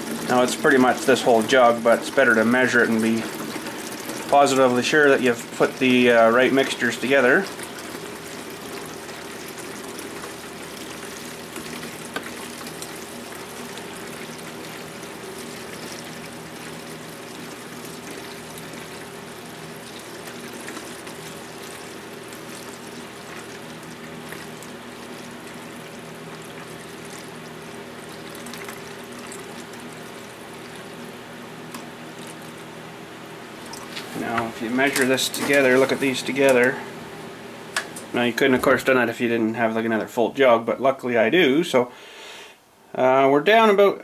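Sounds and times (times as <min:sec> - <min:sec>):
water pouring into plastic jug: 0:00.0 - 0:32.8, 0:33.5 - 0:36.8.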